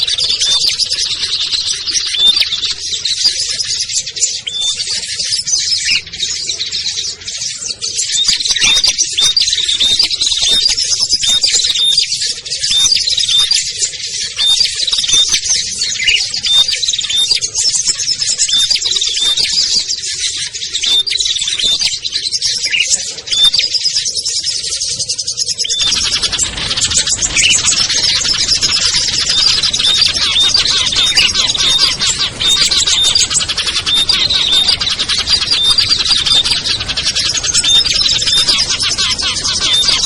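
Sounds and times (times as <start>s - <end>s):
songbirds chattering and chirping: 0.0s - 40.0s.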